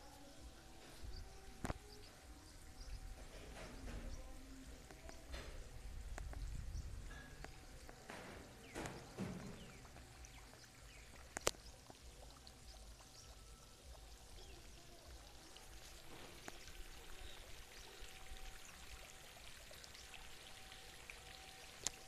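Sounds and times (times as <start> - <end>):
light rain dripping: 0.0 - 22.0.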